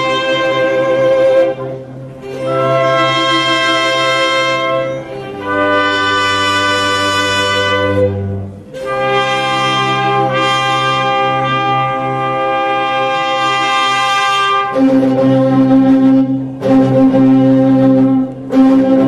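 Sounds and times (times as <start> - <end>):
classical instrumental music: 0.0 - 19.0.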